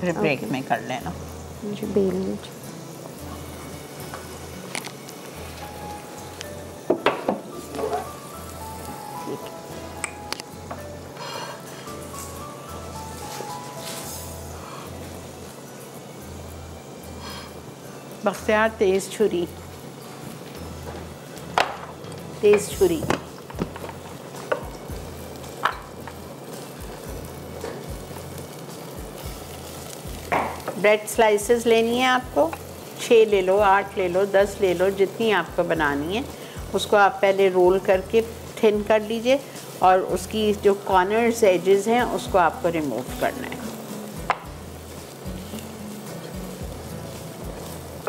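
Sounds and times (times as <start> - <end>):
food sizzling in frying pan: 0.0 - 48.0.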